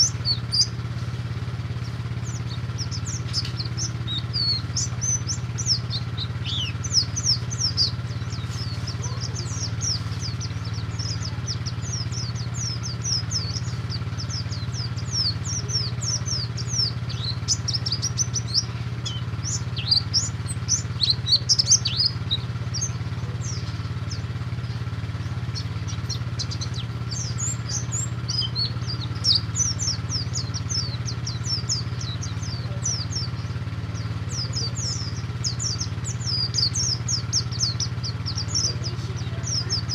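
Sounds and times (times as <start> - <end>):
bird chirping rapidly: 0.0 - 39.9
steady low hum: 0.0 - 39.9.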